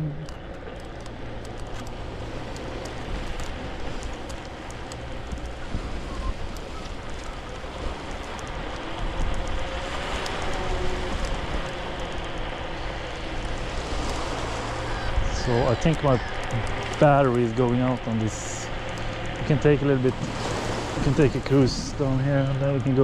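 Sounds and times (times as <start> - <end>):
faint whine: 0.0 - 23.0
scooter wheels rumbling: 0.0 - 23.0
small rattles and clicks: 0.0 - 23.0.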